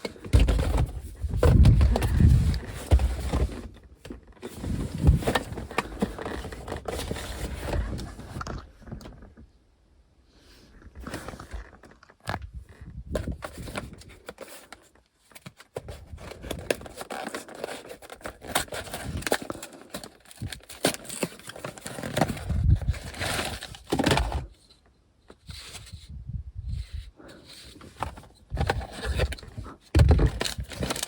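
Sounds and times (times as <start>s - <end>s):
crinkling handling noise: 0.0s - 9.6s, 10.7s - 31.0s.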